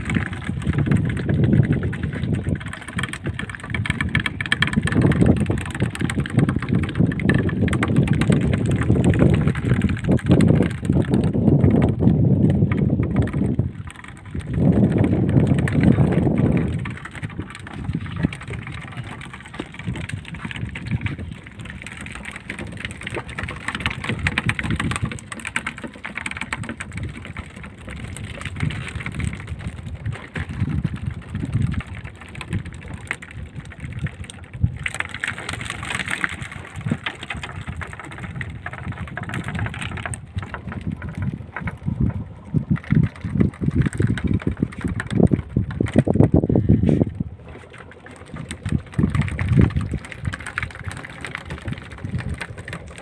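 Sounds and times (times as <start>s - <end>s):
boat engine running: 0.0s - 53.0s
water splashing along hull: 0.0s - 53.0s
wind on microphone: 0.0s - 53.0s.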